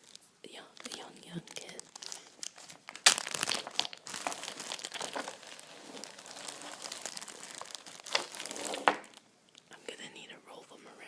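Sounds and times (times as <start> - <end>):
plastic crinkling: 0.0 - 9.7.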